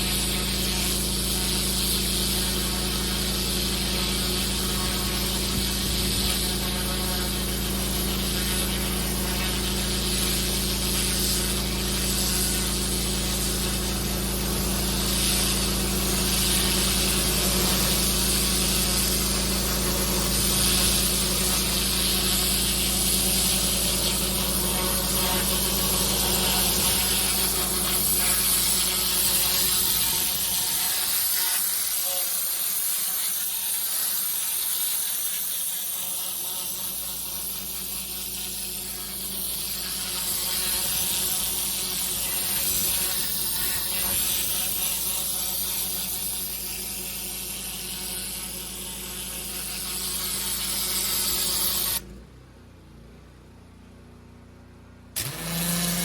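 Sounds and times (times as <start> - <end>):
water jet hissing: 0.0 - 52.0
pressure washer motor drone: 0.0 - 52.3, 55.0 - 56.0.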